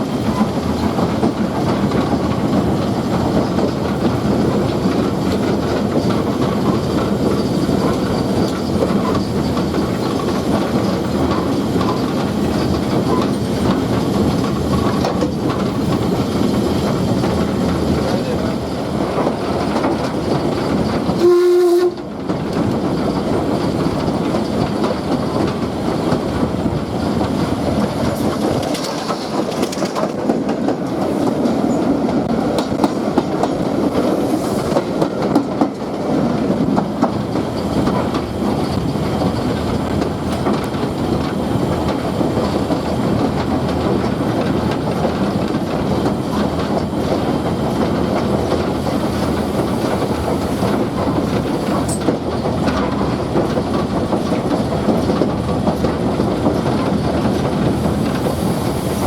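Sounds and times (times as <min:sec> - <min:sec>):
steam train rumbling on track: 0:00.0 - 0:59.0
wheels clattering over rail joints: 0:00.0 - 0:59.0.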